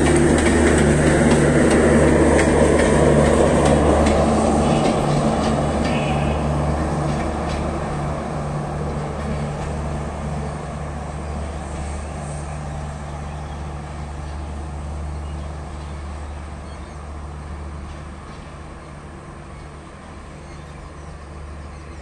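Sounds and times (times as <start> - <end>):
diesel train rolling on track: 0.0 - 22.0.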